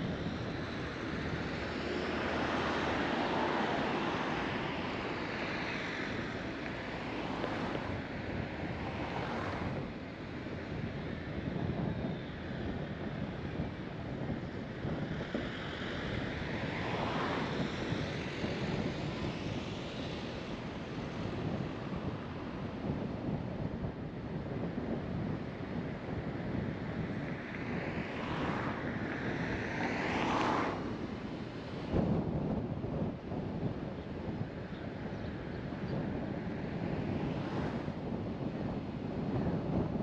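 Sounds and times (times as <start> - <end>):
car road and wind noise: 0.0 - 40.0.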